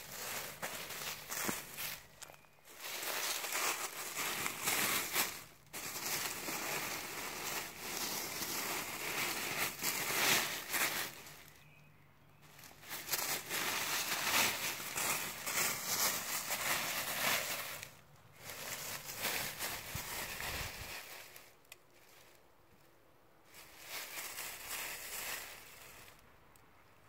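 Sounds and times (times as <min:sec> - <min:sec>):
animal rustling in dry leaves: 0:00.0 - 0:11.7, 0:12.4 - 0:26.2.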